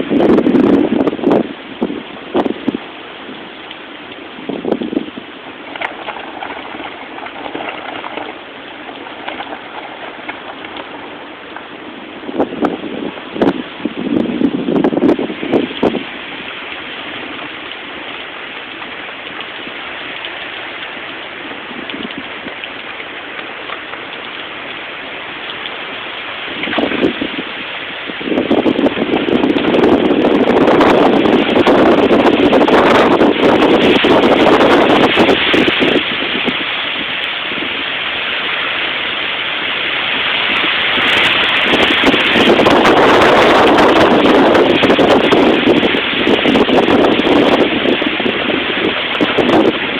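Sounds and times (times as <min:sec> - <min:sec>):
heavy rain falling: 0:00.0 - 0:49.9
strong wind buffeting microphone: 0:00.0 - 0:49.9.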